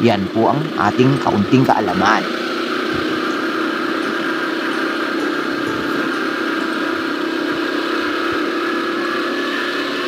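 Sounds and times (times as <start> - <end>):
motorcycle engine droning: 0.0 - 10.0.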